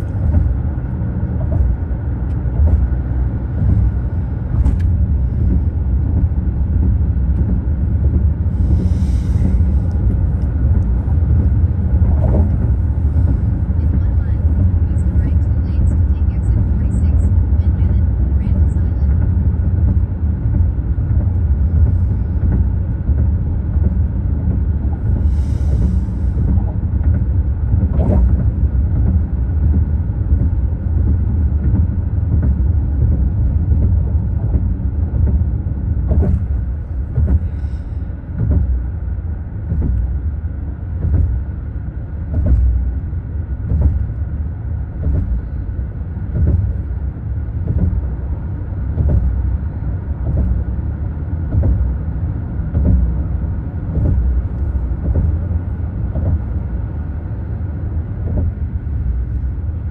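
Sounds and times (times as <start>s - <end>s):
road rumble and tyre noise: 0.0s - 59.9s.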